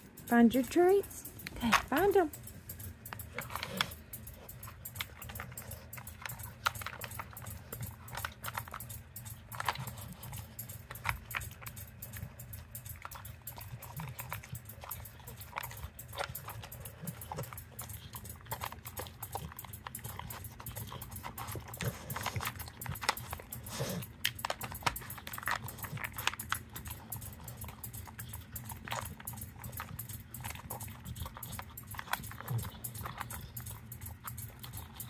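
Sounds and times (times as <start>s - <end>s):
dog sniffing: 0.0s - 35.0s.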